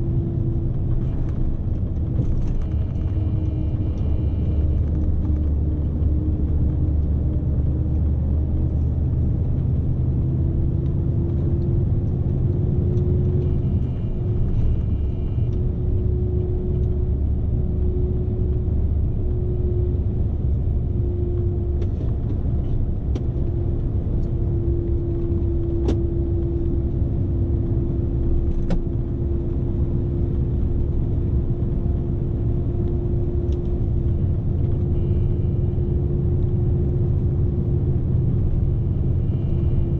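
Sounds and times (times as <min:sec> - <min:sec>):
truck cab rumble and road noise: 0:00.0 - 0:39.9.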